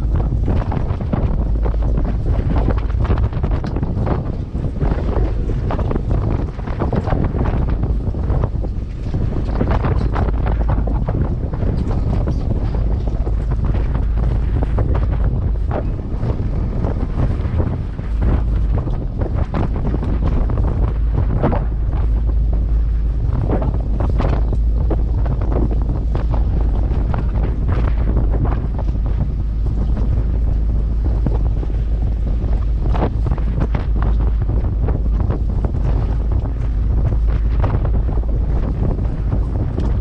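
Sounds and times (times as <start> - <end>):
waves splashing against hull: 0.0 - 40.0
wind buffeting microphone: 0.0 - 40.0.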